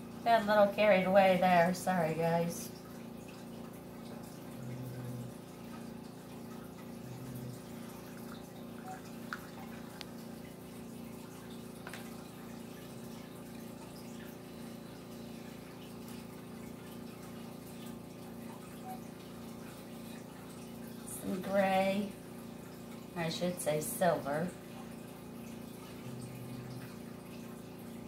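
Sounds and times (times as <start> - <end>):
faint background hum: 0.0 - 28.0.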